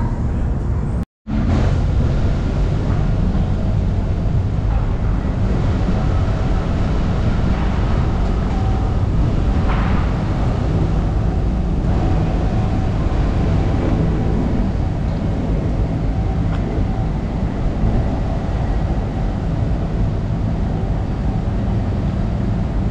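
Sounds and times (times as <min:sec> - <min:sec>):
ferry engines droning: 0:00.0 - 0:22.9.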